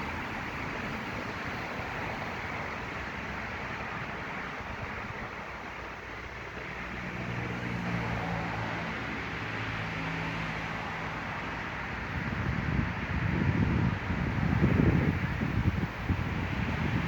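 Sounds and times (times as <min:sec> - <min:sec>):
low steady engine hum: 0:00.0 - 0:17.0
outdoor background noise: 0:00.0 - 0:17.0.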